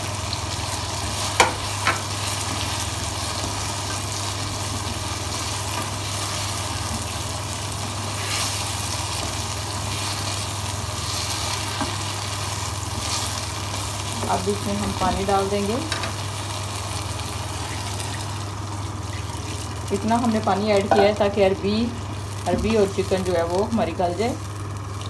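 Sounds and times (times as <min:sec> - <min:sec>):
food sizzling in a pan: 0:00.0 - 0:25.0
steady low hum: 0:00.0 - 0:25.0.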